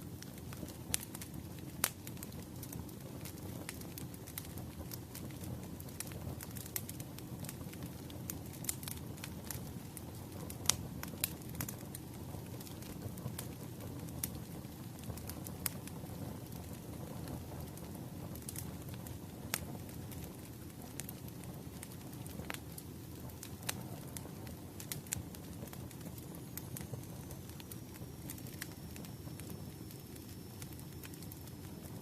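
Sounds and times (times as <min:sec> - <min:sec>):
firewood crackling and popping: 0:00.0 - 0:32.0
wood fire burning with low rumble: 0:00.0 - 0:32.0.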